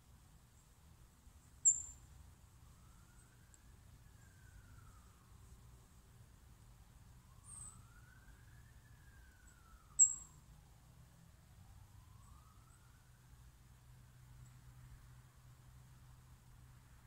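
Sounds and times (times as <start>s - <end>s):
faint siren wailing: 1.6s - 17.0s.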